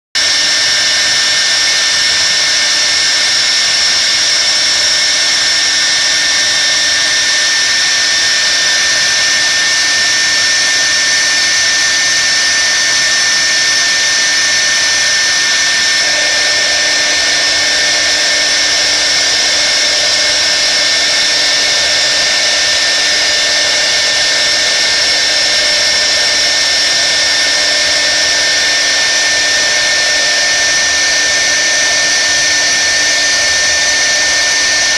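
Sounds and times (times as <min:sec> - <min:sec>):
router spindle whine: 0:00.2 - 0:34.9
lower tone: 0:03.3 - 0:34.9.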